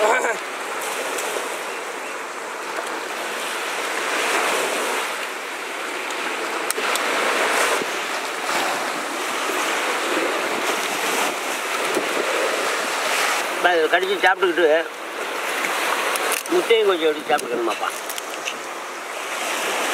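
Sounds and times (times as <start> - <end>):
sea waves washing onto sand: 0.0 - 19.9.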